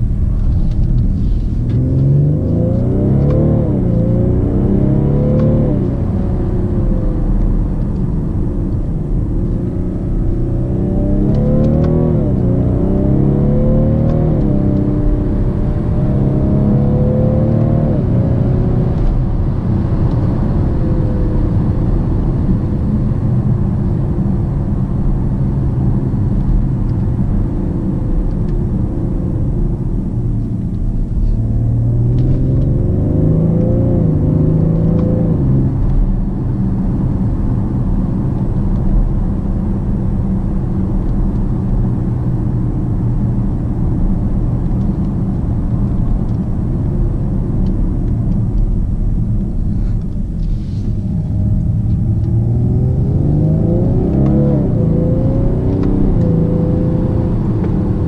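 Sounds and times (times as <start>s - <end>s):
diesel engine accelerating: 0.0s - 58.0s
tyre and road noise: 0.0s - 58.0s.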